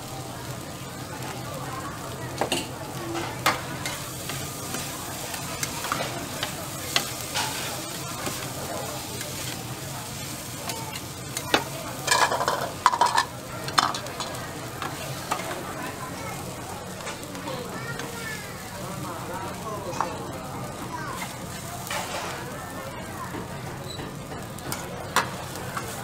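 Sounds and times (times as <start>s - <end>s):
noodles sizzling on a griddle: 0.0s - 26.0s.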